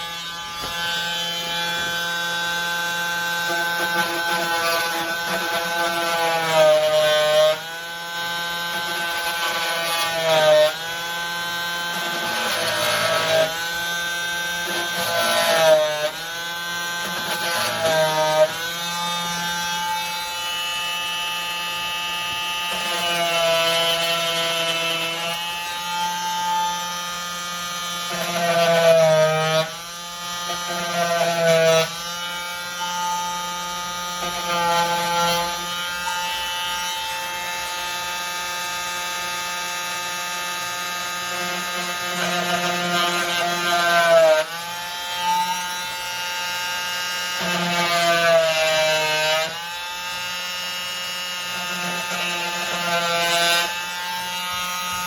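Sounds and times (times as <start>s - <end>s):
oscillating saw cutting wood: 0.0s - 55.0s.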